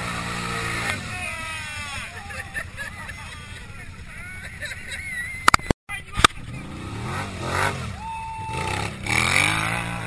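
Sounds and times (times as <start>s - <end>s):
quad bike engines revving: 0.0s - 10.0s.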